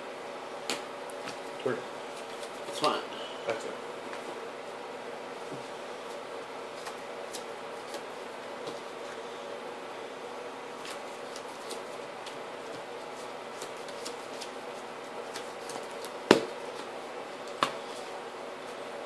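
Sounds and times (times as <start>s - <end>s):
room hum: 0.0s - 19.0s.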